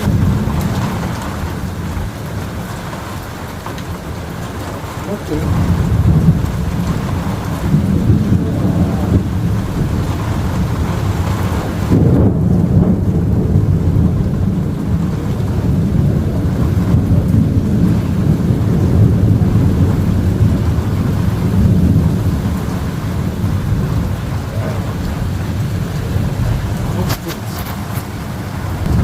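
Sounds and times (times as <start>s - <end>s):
thunder rumbling: 0.0s - 29.0s.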